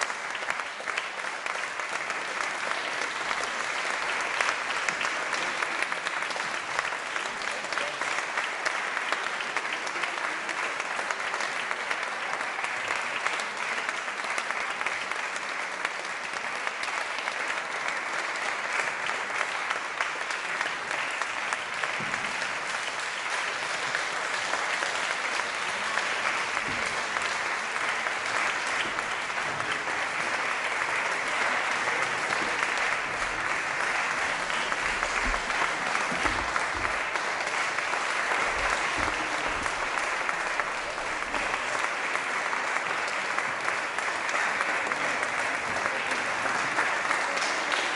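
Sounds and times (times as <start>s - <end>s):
audience applauding: 0.0s - 47.9s.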